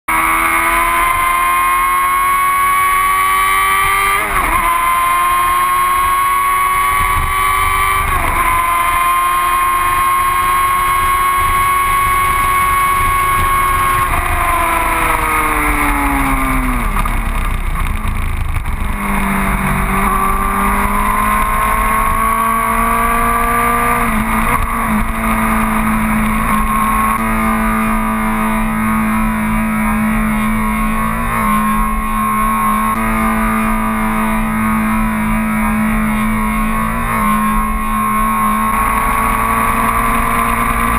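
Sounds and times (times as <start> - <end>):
motorcycle engine at high revs: 0.1 - 40.9
second engine revving: 0.1 - 40.9.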